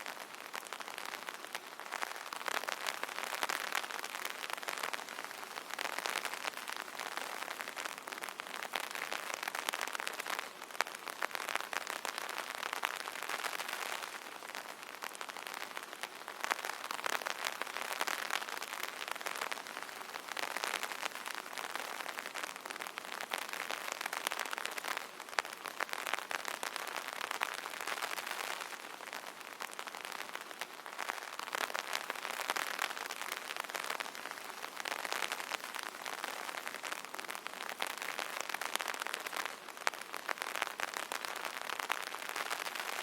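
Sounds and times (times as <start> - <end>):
rain pattering on an umbrella: 0.0 - 43.0.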